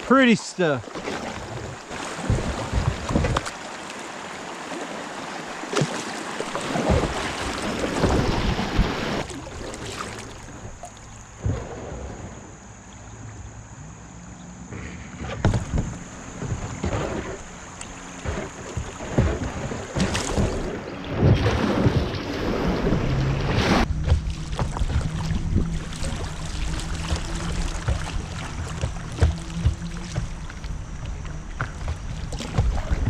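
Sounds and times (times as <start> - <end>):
moving water rushing: 0.0 - 12.2, 15.2 - 33.0
kayak paddle splashing: 0.0 - 13.2, 14.7 - 33.0.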